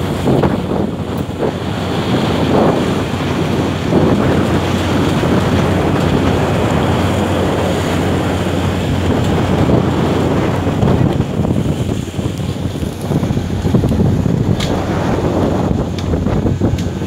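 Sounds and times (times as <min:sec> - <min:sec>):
low engine hum: 0:00.0 - 0:17.0
sea breaking against boat hull: 0:00.0 - 0:17.0
wind buffeting microphone: 0:00.0 - 0:17.0.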